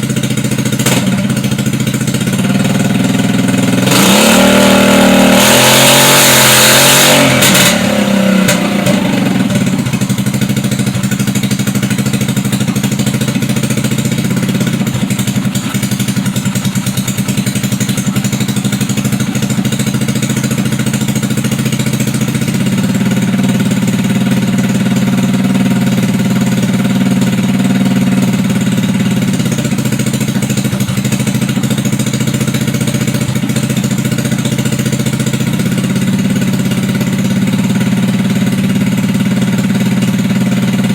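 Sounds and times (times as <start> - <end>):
scooter engine running: 0.0 - 40.9.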